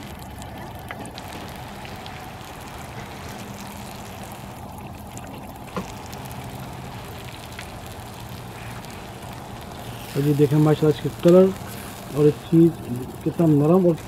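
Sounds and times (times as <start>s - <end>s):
chicken sizzling in a pan: 1.1s - 4.6s, 5.6s - 14.0s.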